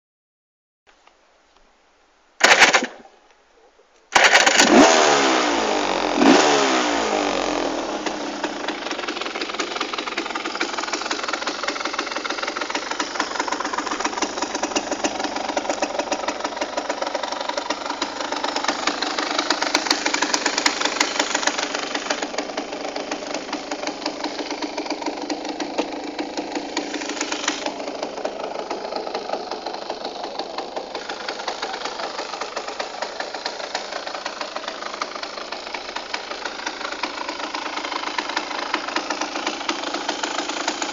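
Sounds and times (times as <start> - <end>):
two-stroke engine starting and idling: 2.4 - 3.2, 4.1 - 40.9.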